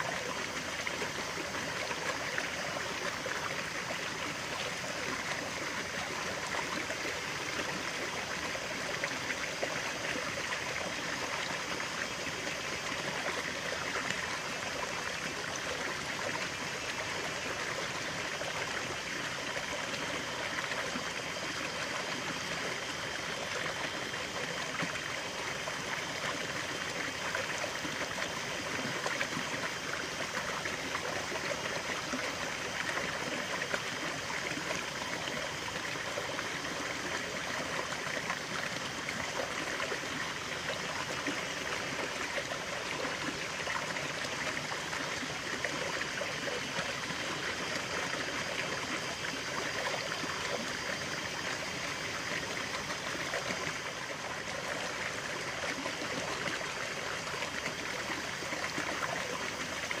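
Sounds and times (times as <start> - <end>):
stream babbling over stones: 0.0 - 60.0.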